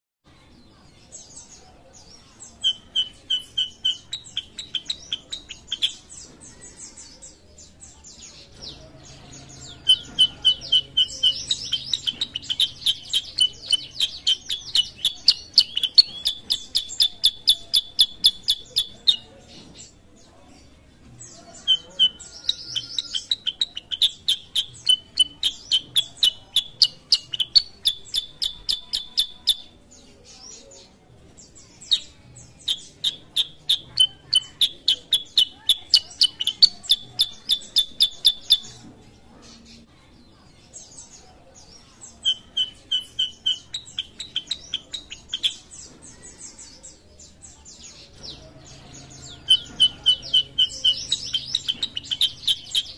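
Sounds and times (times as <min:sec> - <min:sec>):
bird singing rapid sharp chirps: 0:01.0 - 0:38.8, 0:40.6 - 0:52.9.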